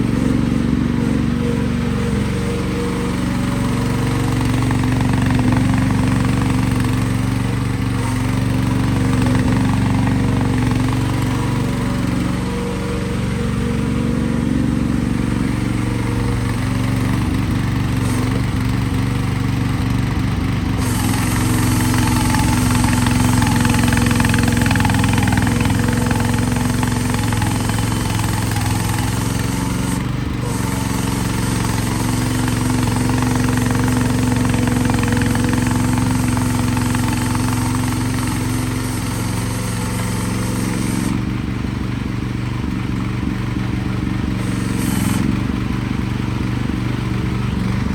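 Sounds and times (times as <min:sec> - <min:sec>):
mini excavator engine running: 0:00.0 - 0:47.9.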